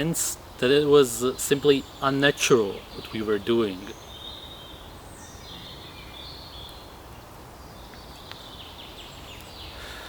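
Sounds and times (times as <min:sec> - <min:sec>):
birds chirping: 0:00.0 - 0:10.0
outdoor background noise: 0:00.0 - 0:10.0.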